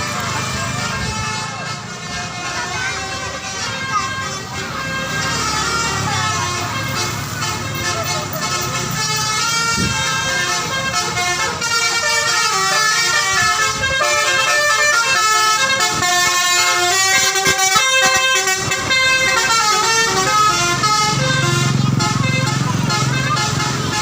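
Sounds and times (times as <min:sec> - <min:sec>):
bus musical horn playing tune: 0:00.0 - 0:24.0.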